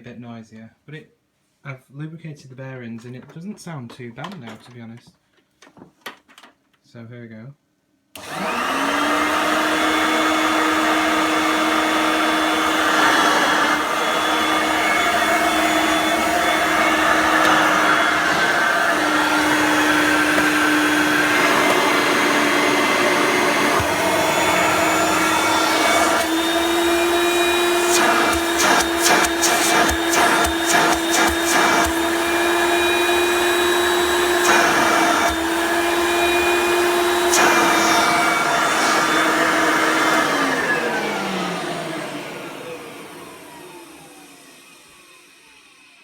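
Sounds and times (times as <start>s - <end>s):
vacuum cleaner motor whining: 8.2s - 46.0s.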